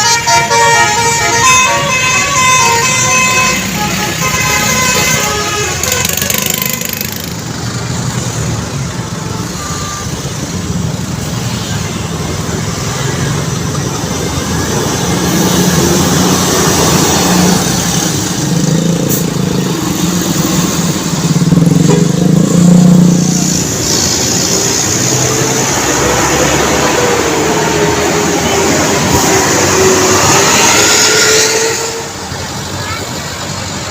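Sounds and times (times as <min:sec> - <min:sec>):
bus passing: 0:00.0 - 0:33.9
large vehicle engine rumbling: 0:00.0 - 0:33.9
road traffic noise: 0:00.0 - 0:33.9.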